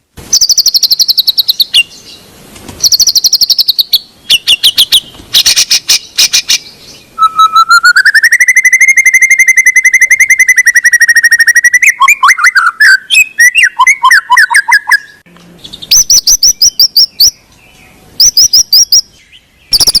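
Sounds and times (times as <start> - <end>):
bird singing trills: 0.3 - 20.0.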